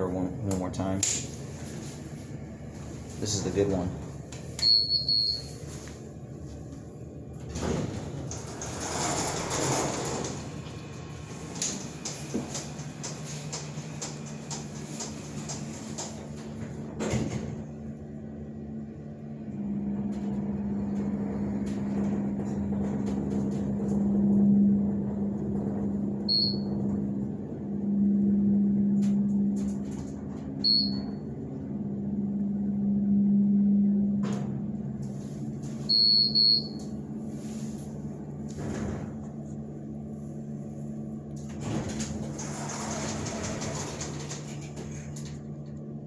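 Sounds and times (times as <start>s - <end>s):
elevator pump motor humming: 0.0s - 46.0s.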